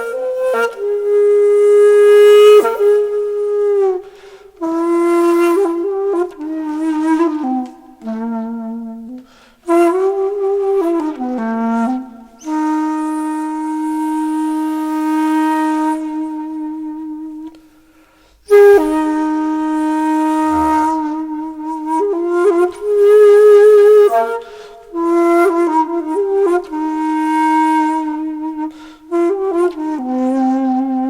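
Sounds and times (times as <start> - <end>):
solo flute playing slow notes: 0.0 - 17.9, 18.5 - 31.0.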